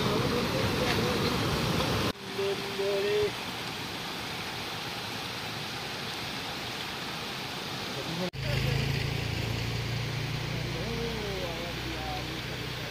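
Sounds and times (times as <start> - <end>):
stream rushing over rocks: 0.0 - 12.9.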